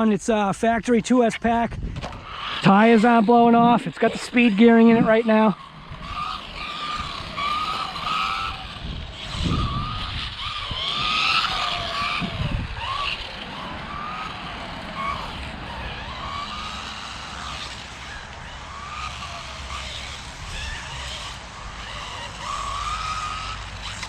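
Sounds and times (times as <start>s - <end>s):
electric motor whining: 1.0s - 24.0s.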